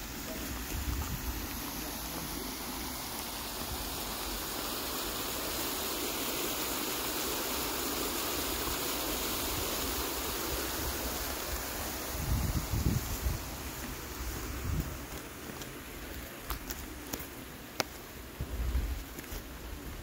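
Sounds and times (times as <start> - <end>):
fountain water splashing: 0.0 - 18.4.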